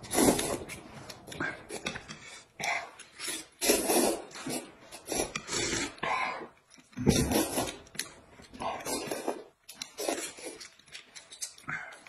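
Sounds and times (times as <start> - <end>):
people slurping noodles: 0.0 - 7.9, 8.6 - 10.8.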